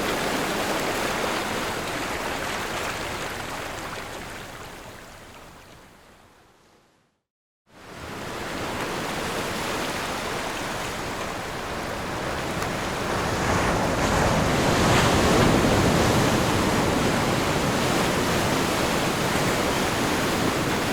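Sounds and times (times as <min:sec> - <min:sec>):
waves washing on a beach: 0:00.0 - 0:05.4, 0:07.8 - 0:20.9.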